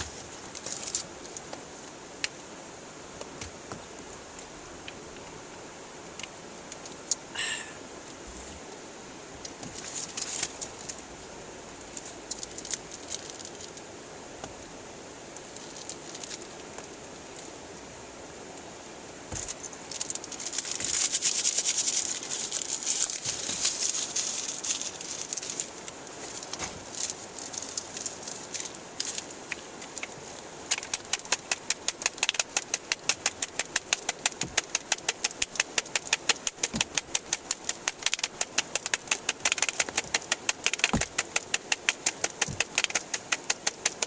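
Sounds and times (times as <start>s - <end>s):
clicks and crackling rustles: 0.0s - 2.5s, 3.2s - 7.3s, 9.4s - 14.7s, 15.3s - 17.9s, 18.6s - 44.0s
steady rain hiss: 0.0s - 44.0s.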